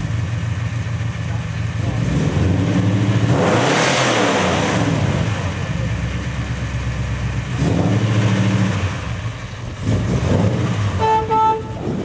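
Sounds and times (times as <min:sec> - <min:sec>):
car engine revving: 0:01.6 - 0:12.0.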